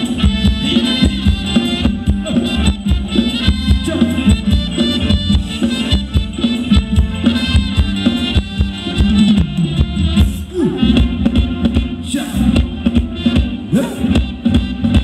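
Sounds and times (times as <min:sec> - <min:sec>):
live band dance music: 0:00.0 - 0:15.0
quick percussion beat: 0:00.0 - 0:15.0.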